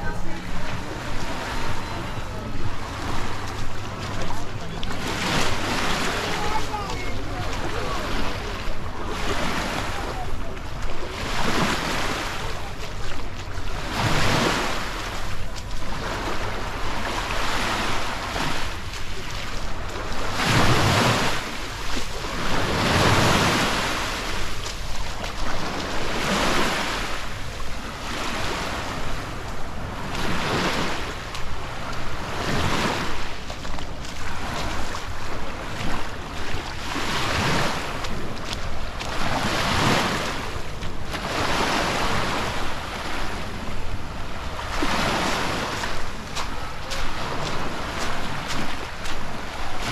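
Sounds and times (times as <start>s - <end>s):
small waves breaking on beach: 0.0s - 49.9s.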